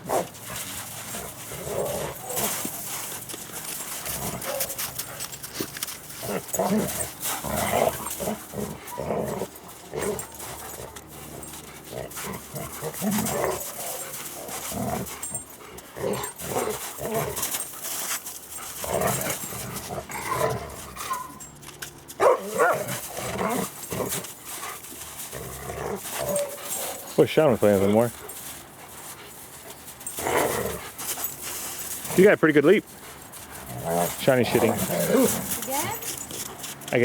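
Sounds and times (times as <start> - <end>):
dogs barking and growling: 0.0 - 36.8.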